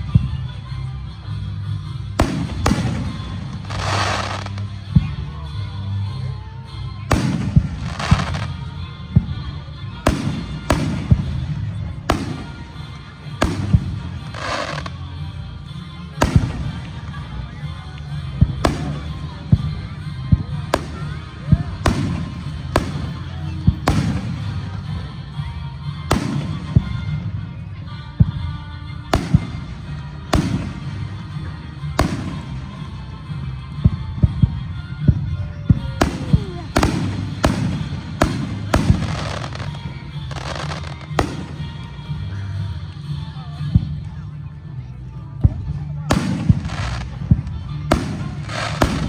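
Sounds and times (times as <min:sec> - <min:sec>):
music playing: 0:00.0 - 0:49.0
fireworks bangs: 0:02.2 - 0:05.4, 0:07.1 - 0:25.5, 0:26.1 - 0:42.2, 0:46.1 - 0:49.0.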